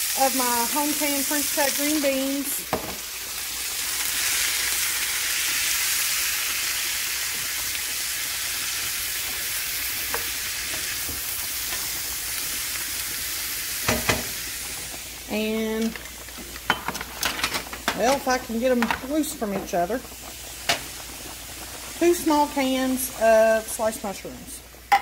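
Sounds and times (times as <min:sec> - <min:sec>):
green beans sizzling in a skillet: 0:00.0 - 0:25.0.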